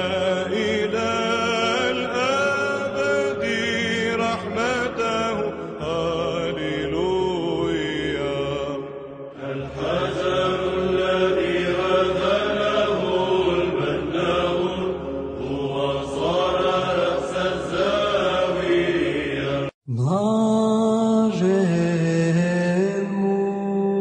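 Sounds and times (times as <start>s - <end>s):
voices chanting over a drone: 0.0s - 21.9s.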